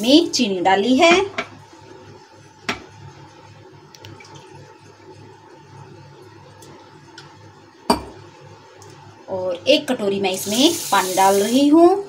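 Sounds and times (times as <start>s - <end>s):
quiet background hum: 0.0s - 12.0s.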